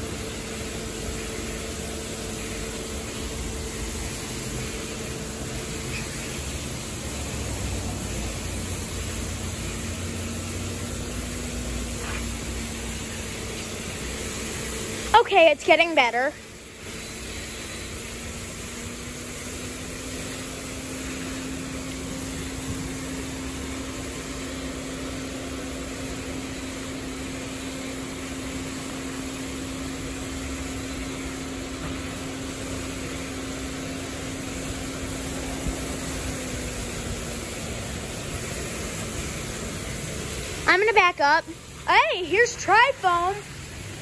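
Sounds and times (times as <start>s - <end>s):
car wash machine hum: 0.0s - 44.0s
water spray hissing: 0.2s - 44.0s.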